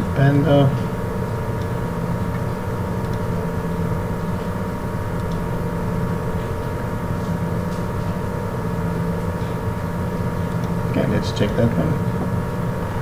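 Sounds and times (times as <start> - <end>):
constant held tones: 0.0 - 13.0
low background hum: 0.0 - 13.0.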